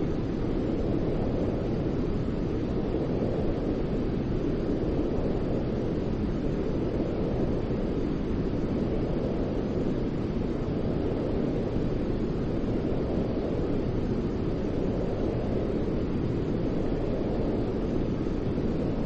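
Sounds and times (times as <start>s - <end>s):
deep white noise hiss: 0.0s - 19.0s.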